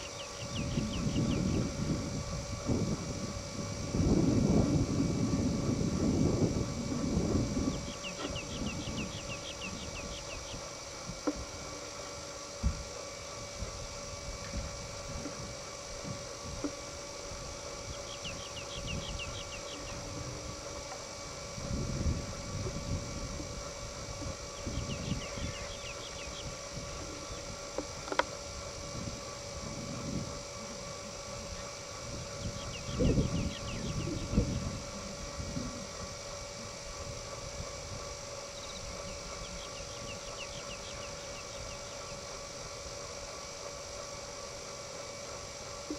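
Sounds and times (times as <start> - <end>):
birds chirping: 0.0 - 2.7, 6.8 - 21.5, 22.2 - 43.8
wind gusts on microphone: 0.0 - 10.2, 12.6 - 27.7, 28.6 - 40.1
steady hum: 0.0 - 45.9.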